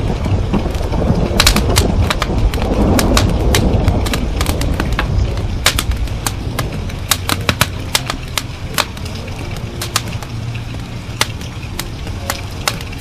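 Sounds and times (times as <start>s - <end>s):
thunder rumble: 0.0s - 13.0s
wood fire crackling: 0.0s - 13.0s.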